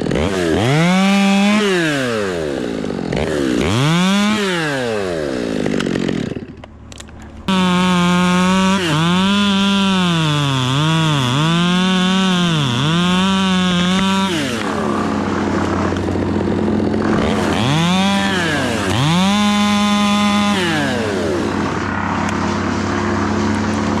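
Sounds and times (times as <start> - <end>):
chainsaw revving and idling: 0.0 - 24.0.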